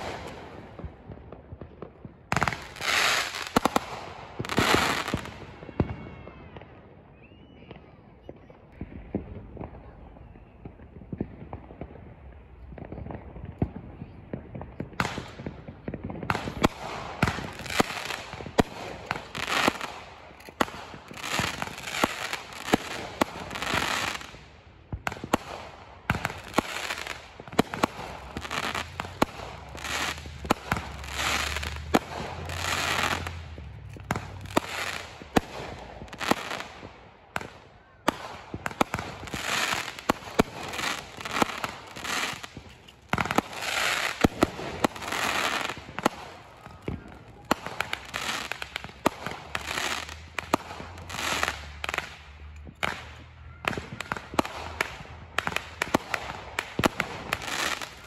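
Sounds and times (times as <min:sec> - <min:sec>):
firework bangs: 0:00.0 - 0:07.0, 0:07.6 - 0:58.0
dense firework crackling: 0:00.0 - 0:58.0.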